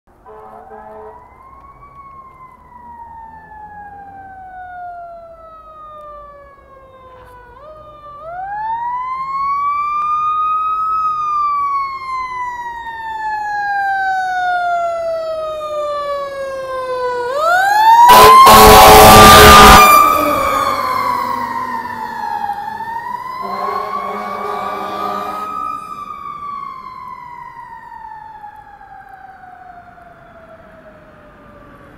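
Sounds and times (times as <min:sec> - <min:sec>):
fire engine siren wailing: 0:00.2 - 0:31.9.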